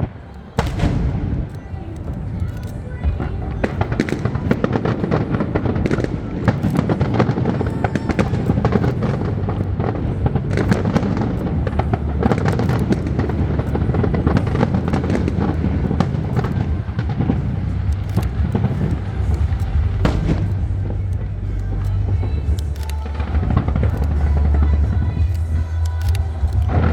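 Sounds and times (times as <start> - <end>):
fireworks bangs and crackles: 0.0 - 26.9
music playing: 0.0 - 26.9
low rumble: 0.6 - 26.9.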